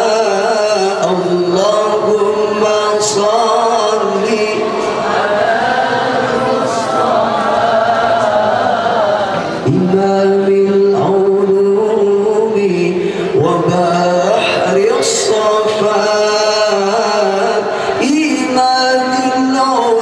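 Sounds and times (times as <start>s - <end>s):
man singing through a microphone: 0.0s - 5.6s, 7.9s - 20.0s.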